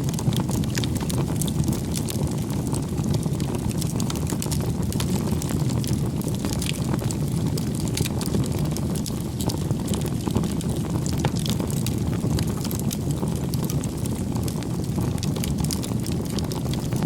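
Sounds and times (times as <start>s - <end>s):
campfire flame rushing: 0.0s - 17.0s
wood crackling and popping: 0.0s - 17.0s.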